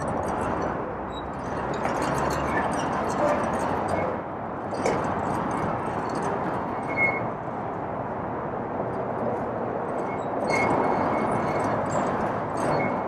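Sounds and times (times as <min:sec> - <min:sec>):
car driving on city street: 0:00.0 - 0:13.0.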